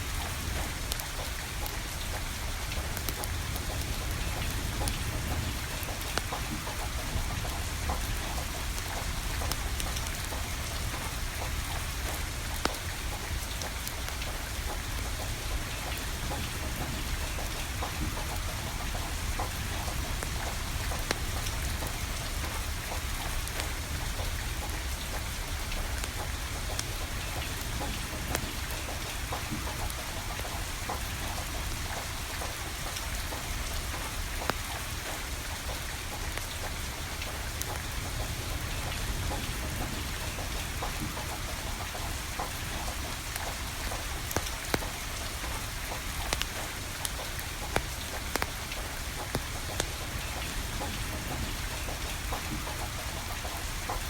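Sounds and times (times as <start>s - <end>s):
rain pattering: 0.0s - 54.0s
wood fire popping and crackling: 0.1s - 54.0s.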